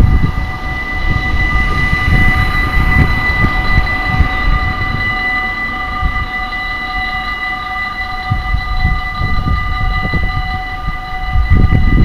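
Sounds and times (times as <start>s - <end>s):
level crossing warning bell: 0.0s - 12.0s
wind rumble on microphone: 0.0s - 12.0s.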